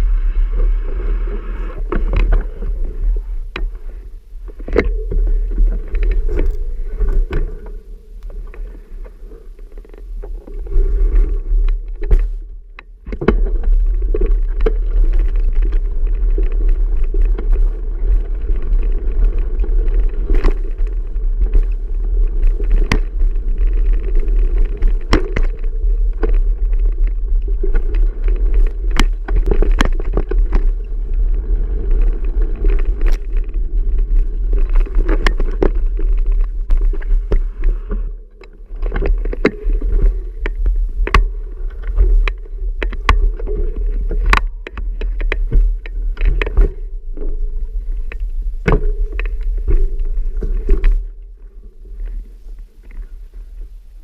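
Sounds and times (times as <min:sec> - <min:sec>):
wind rumbling on microphone: 0:00.0 - 0:54.0
bicycle knocks and rattles over bumps: 0:01.8 - 0:53.0.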